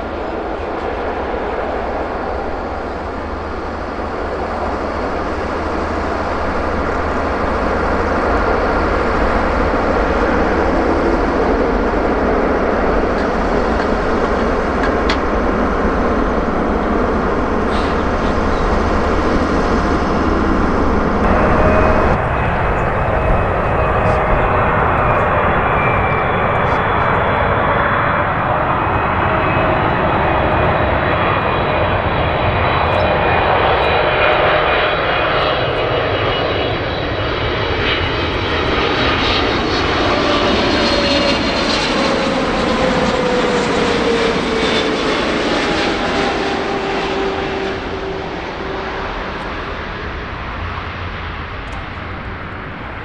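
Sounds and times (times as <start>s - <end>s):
jet engines roaring past: 0.0s - 53.0s.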